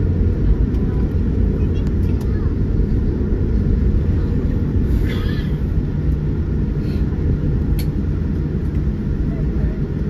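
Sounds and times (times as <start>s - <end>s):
airplane landing rumble: 0.0s - 10.0s.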